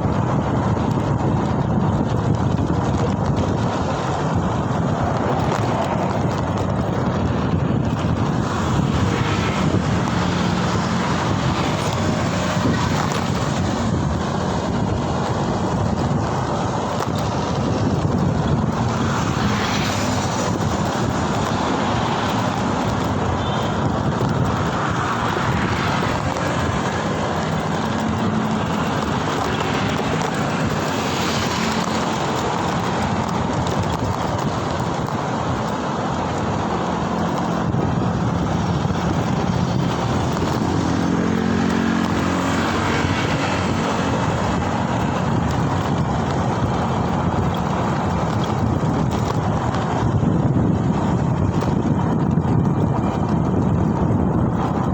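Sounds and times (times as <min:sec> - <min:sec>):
road noise in traffic: 0:00.0 - 0:54.9
wind rushing: 0:00.0 - 0:54.9.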